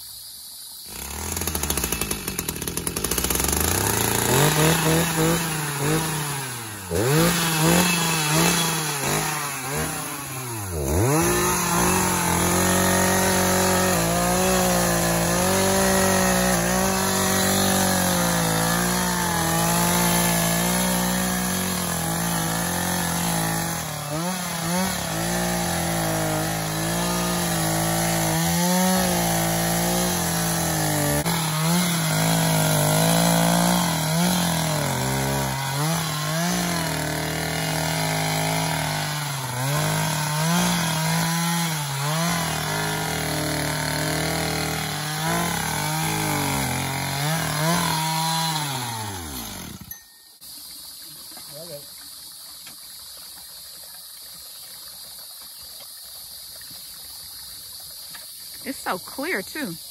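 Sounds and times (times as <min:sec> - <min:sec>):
chainsaw cutting roots: 0:00.9 - 0:50.2, 0:58.2 - 0:59.9.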